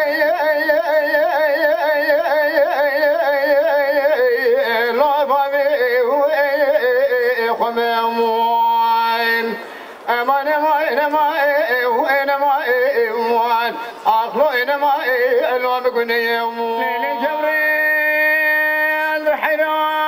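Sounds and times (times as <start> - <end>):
person singing unaccompanied: 0.0 - 20.0.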